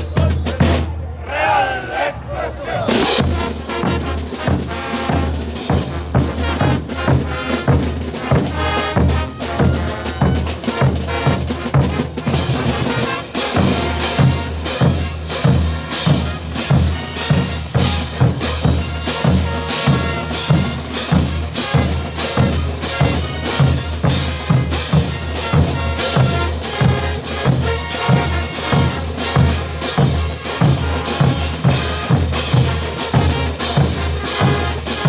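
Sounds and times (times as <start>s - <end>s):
bass drum and cymbals beat: 0.0s - 0.9s, 2.8s - 35.0s
brass band playing: 0.0s - 35.0s.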